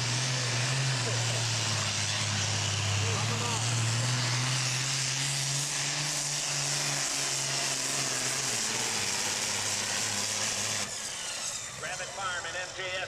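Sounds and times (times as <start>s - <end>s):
diesel tractor engine under load: 0.0s - 13.0s.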